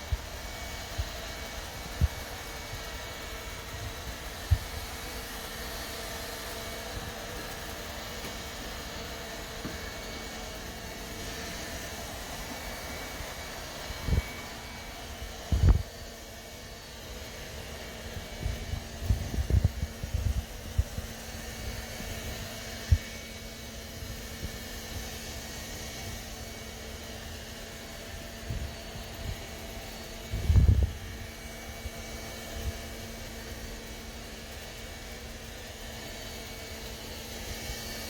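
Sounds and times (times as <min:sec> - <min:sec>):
robot vacuum whirring hum: 0:00.0 - 0:38.0.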